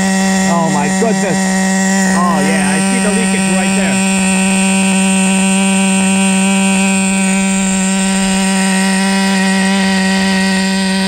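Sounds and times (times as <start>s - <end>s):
model engine buzzing: 0.0s - 11.0s.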